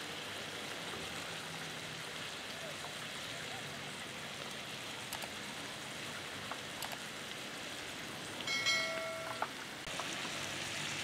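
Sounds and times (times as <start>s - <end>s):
meat sizzling in a metal tray: 0.0s - 11.0s.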